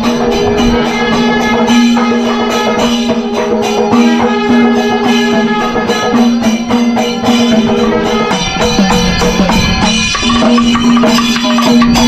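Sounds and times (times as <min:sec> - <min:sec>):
drums: 0:00.0 - 0:12.0
jingling percussion: 0:00.0 - 0:12.0.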